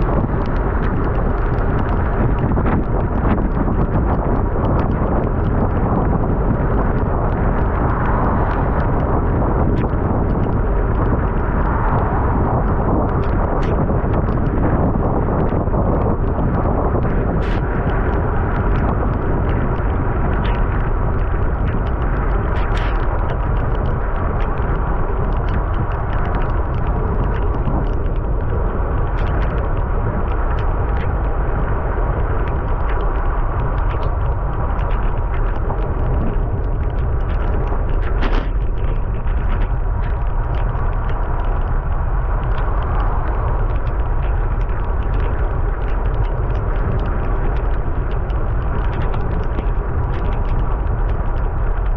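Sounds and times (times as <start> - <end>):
bicycle tyre noise on wet road: 0.0 - 51.9
small clicks and rattles: 0.0 - 51.9
wind rumble on microphone: 0.0 - 51.9.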